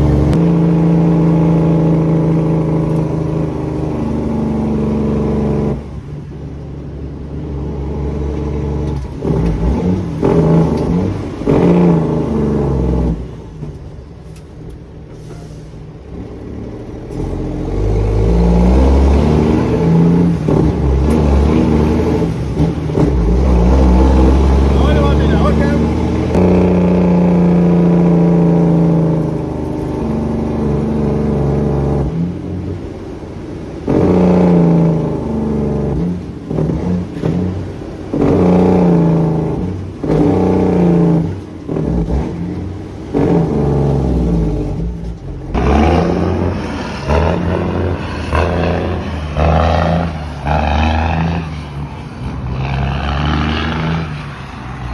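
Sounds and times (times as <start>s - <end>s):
diesel truck engine shifting gears: 0.0s - 54.9s
truck accelerating away: 0.0s - 54.9s.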